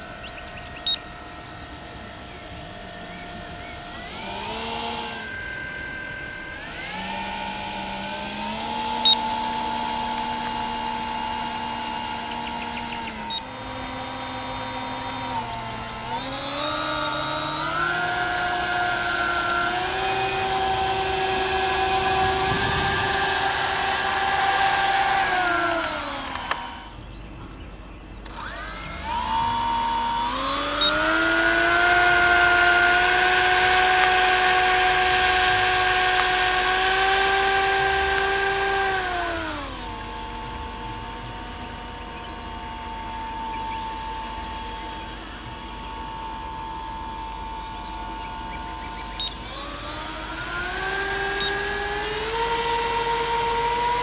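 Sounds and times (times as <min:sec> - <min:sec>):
electric motors whining: 0:00.0 - 0:54.0.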